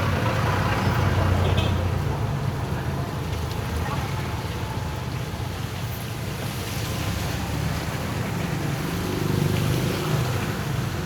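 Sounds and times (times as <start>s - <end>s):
road noise rumble: 0.0s - 11.0s.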